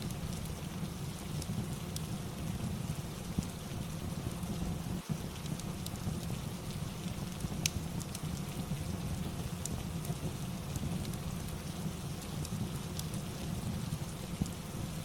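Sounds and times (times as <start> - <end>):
fireplace pops and crackles: 0.0 - 15.0
steady rain: 0.0 - 15.0.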